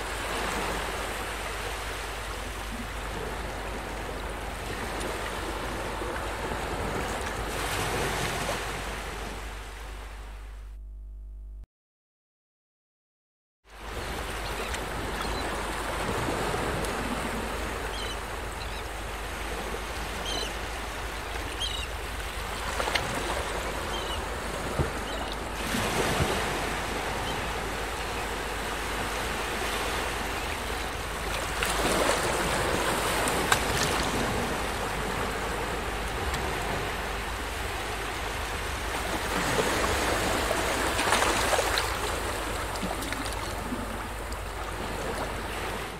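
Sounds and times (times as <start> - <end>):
ocean waves washing in: 0.0 - 10.4, 13.7 - 45.9.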